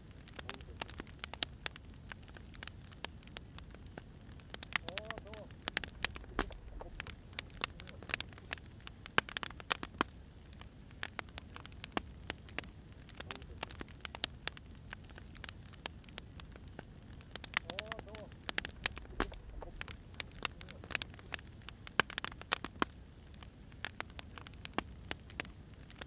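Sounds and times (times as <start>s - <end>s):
firewood popping and snapping: 0.0s - 26.0s
low fire rumble: 0.0s - 26.0s.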